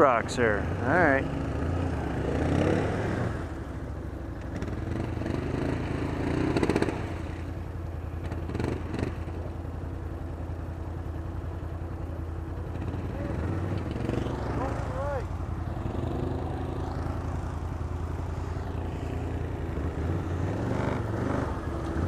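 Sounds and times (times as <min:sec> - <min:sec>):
engine revving: 0:00.0 - 0:03.8, 0:04.4 - 0:07.5, 0:08.1 - 0:09.6, 0:12.6 - 0:22.0
atv engines idling: 0:00.0 - 0:22.0.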